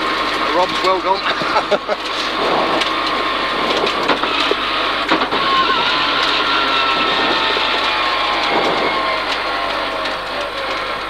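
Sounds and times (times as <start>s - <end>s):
car engine running: 0.0s - 11.0s
car knocking and rattling: 0.0s - 11.0s.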